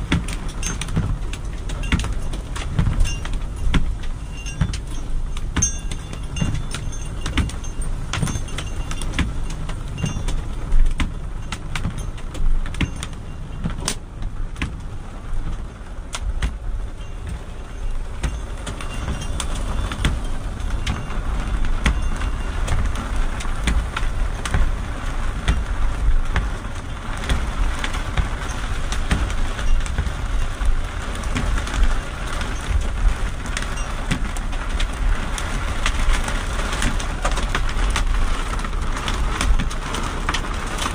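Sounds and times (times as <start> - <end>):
hailstones clicking: 0.0 - 40.9
low rumble: 0.0 - 40.9
rain on car roof: 0.0 - 40.9.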